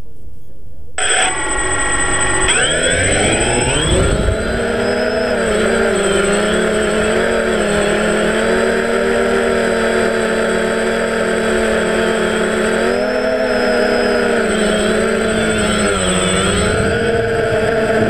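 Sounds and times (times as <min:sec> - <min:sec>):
model aircraft motor and propeller drone: 0:01.0 - 0:18.0.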